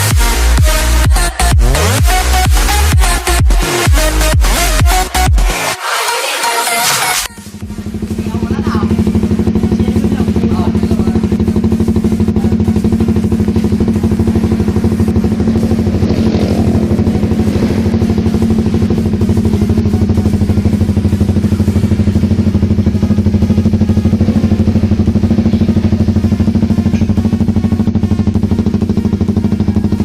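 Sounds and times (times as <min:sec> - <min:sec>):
motorcycle engine idling: 0:00.0 - 0:05.5, 0:07.3 - 0:30.0.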